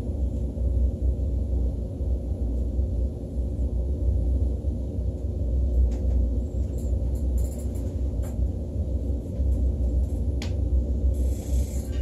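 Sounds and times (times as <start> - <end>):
train cabin low rumble: 0.0 - 12.0.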